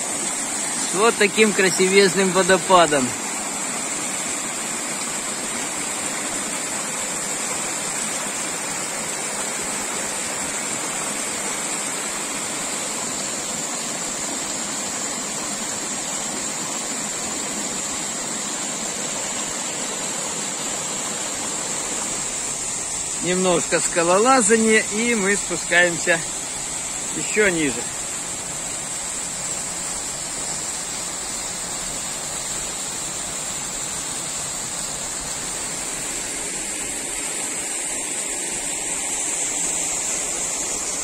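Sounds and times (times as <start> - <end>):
waterfall rushing into pool: 0.0 - 41.0.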